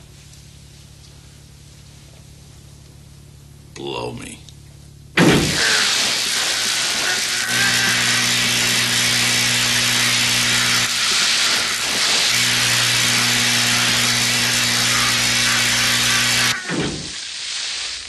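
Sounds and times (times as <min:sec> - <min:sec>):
loud electrical hum with crackling: 0:00.0 - 0:18.0.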